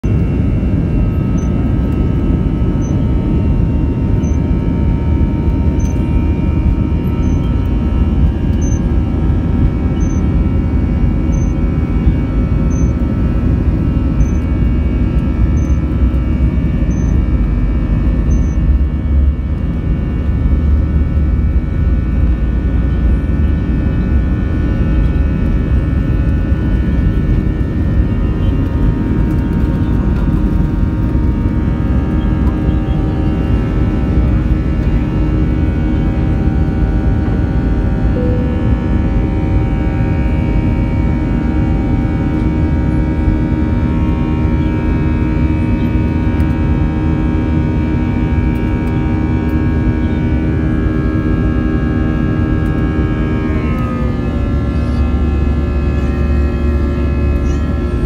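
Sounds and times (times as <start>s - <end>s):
jet engine hum: 0.0s - 58.0s
low rumble: 0.0s - 58.0s.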